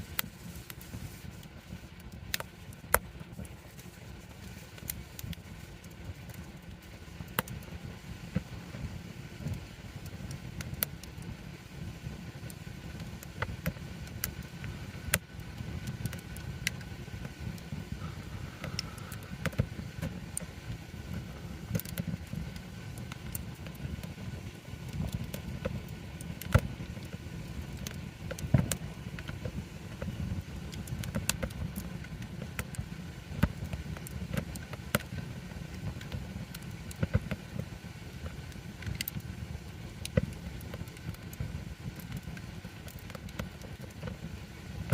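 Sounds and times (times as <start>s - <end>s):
campfire burning and crackling: 0.0s - 44.9s.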